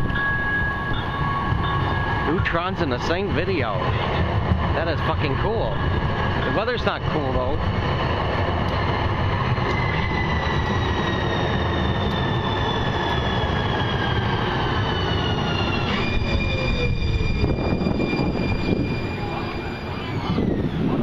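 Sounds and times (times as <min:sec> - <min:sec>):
high train whine: 0:00.0 - 0:21.0
train wheels rumbling on track: 0:00.0 - 0:21.0.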